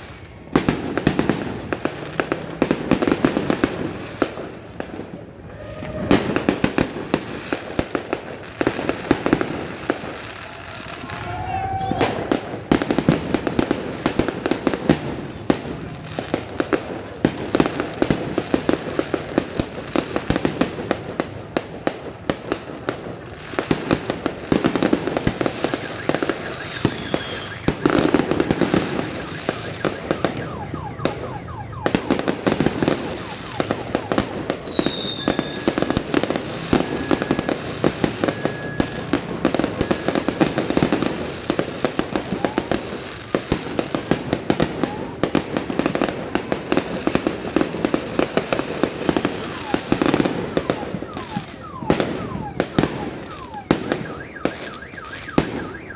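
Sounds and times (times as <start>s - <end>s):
firework whistling: 0.0s - 55.9s
fireworks bangs and crackling: 0.0s - 55.9s.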